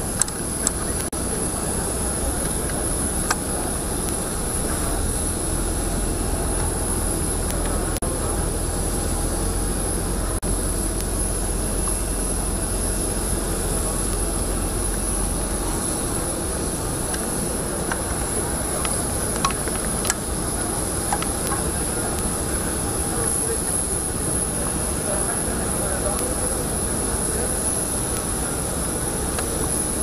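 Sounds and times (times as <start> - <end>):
jet turbine whine: 0.0 - 30.0
low rumble: 0.1 - 25.0.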